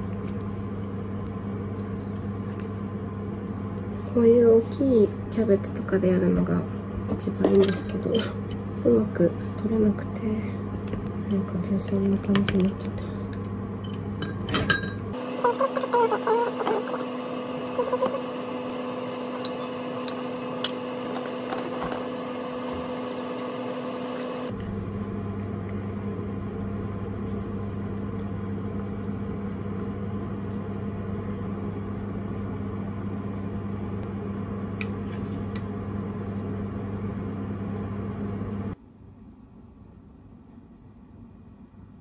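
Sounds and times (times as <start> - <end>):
kitchen appliance humming: 0.0 - 38.8.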